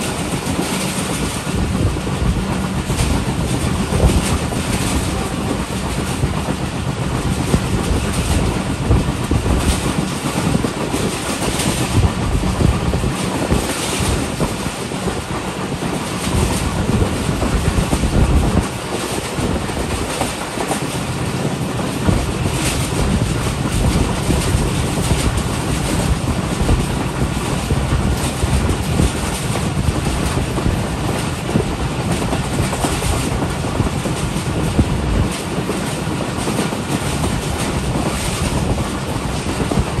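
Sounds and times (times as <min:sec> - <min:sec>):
train rumbling: 0:00.0 - 0:40.0
wheels clacking over rail joints: 0:00.0 - 0:40.0.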